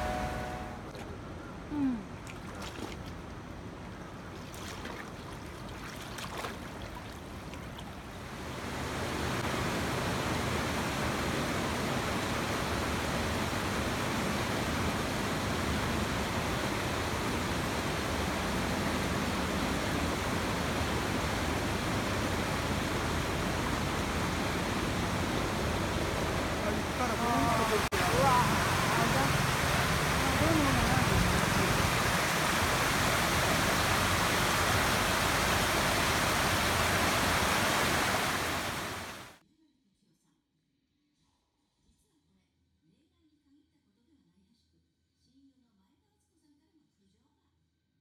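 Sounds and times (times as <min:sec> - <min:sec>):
floodwater rushing down street: 0:00.0 - 0:01.2, 0:01.8 - 0:39.4.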